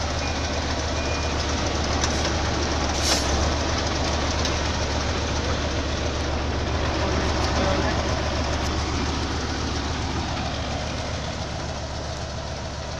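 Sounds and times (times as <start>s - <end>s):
heavy vehicle engine humming: 0.0s - 12.9s.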